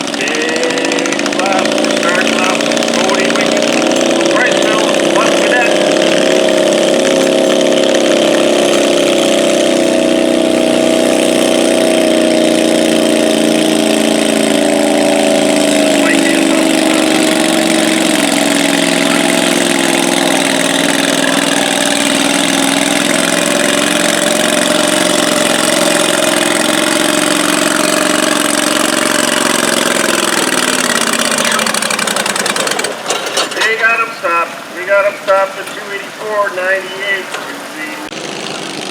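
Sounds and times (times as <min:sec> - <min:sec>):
garden tractor engine under load: 0:00.0 - 0:38.9.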